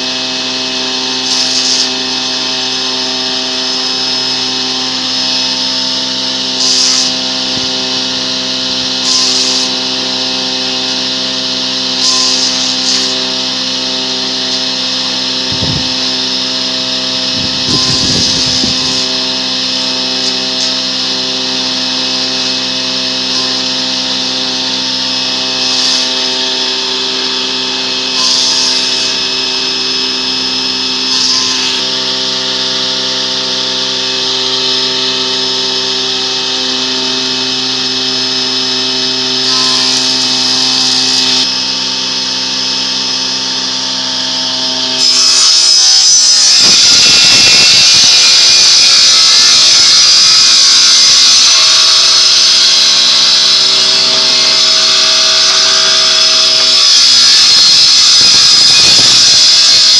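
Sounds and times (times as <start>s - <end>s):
power tool cutting wood: 0.0s - 59.9s
power tool motor hum: 0.0s - 59.9s.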